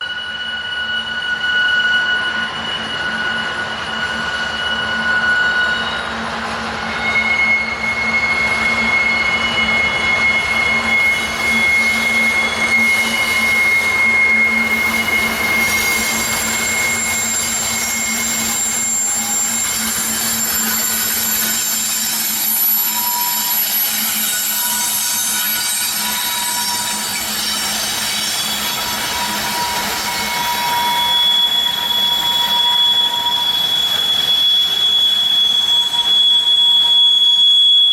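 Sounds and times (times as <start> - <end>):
train wheels squealing: 0.0 - 37.9
train rolling rumble: 0.2 - 37.2.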